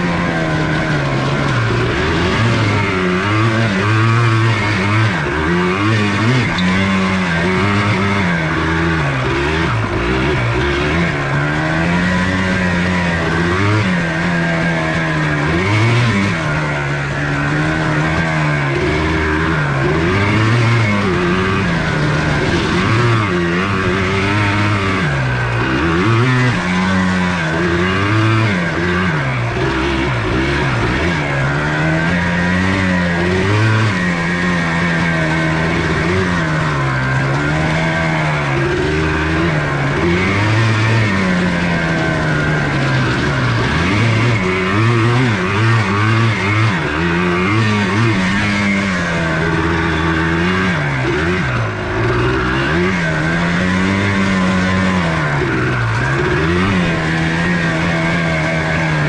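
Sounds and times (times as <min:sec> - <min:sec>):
two-stroke engine revving: 0:00.0 - 0:59.0.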